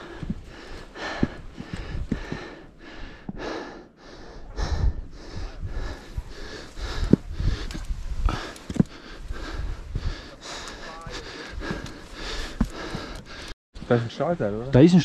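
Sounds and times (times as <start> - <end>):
person breathing hard: 0.0 - 13.6.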